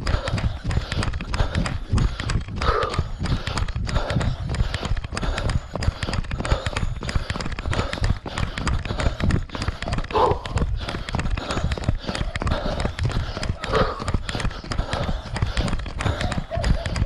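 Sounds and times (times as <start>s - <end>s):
man breathing: 0.0s - 17.0s
runner's footfalls: 0.0s - 17.0s.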